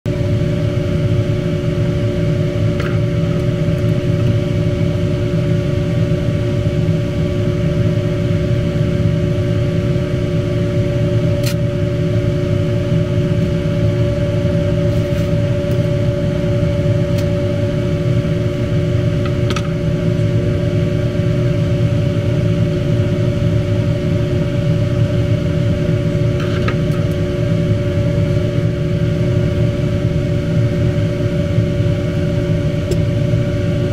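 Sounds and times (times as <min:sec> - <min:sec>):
steady machine hum: 0:00.1 - 0:33.9.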